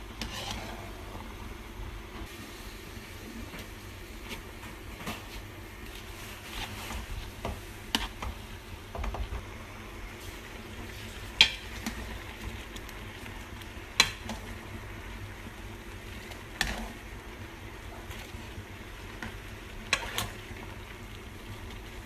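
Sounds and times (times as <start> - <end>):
gravy simmering in a pot: 0.0 - 22.0.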